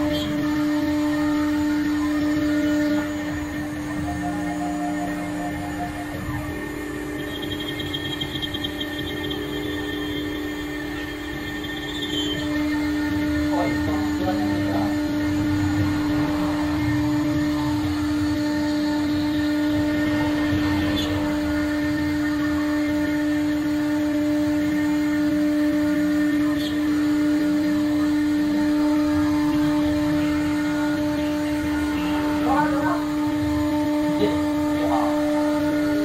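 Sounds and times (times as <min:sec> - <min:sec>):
router spindle whine: 0:00.0 - 0:36.0.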